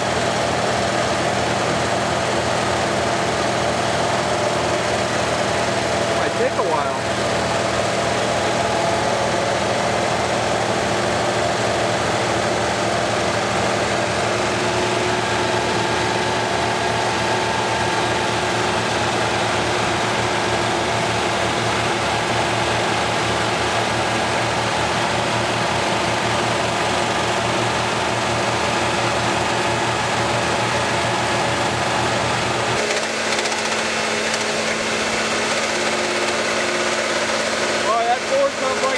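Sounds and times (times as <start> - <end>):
truck engines running flat out: 0.0 - 38.9.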